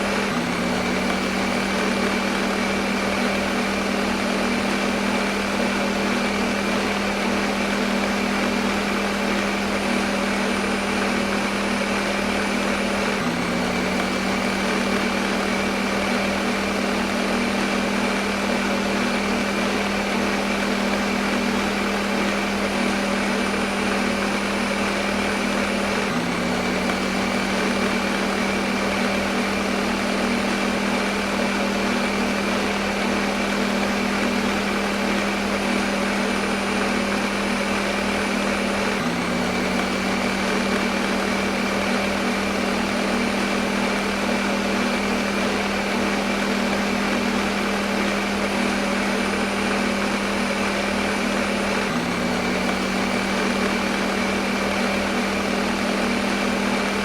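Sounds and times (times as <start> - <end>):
blender motor running: 0.0 - 57.0.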